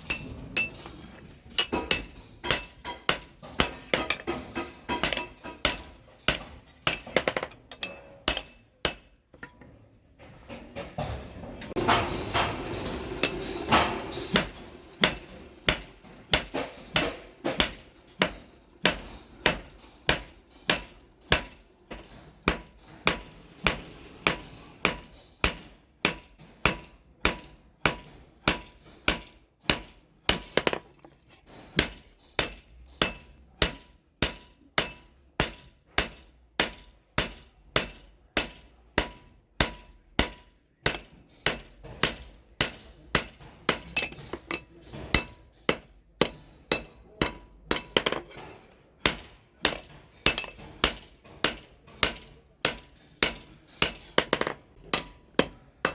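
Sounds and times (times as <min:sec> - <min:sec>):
hammer striking steel on anvil: 0:00.0 - 0:09.7, 0:11.0 - 0:55.9.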